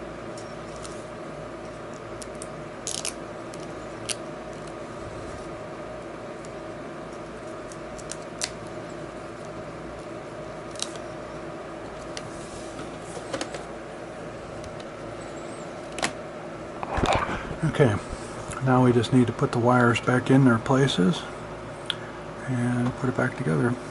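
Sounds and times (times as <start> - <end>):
steady background hum: 0.0 - 23.9.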